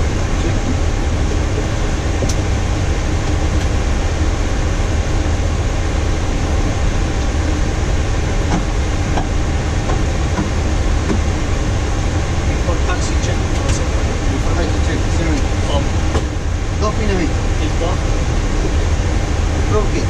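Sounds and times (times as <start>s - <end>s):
low rumble and rush of air: 0.0s - 20.0s.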